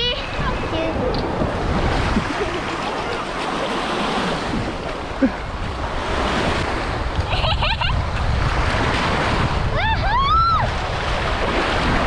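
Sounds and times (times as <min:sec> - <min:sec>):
small waves washing onto sand: 0:00.0 - 0:12.0
wind buffeting microphone: 0:00.0 - 0:12.0.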